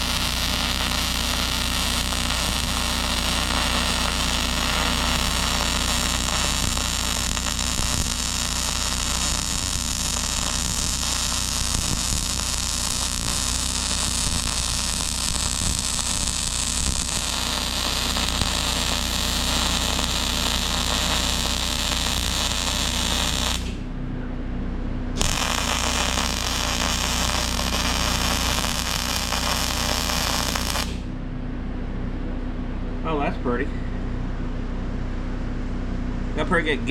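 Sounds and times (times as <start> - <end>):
arc welding crackling hiss: 0.0 - 23.8, 25.2 - 31.1
electrical hum: 0.0 - 36.9.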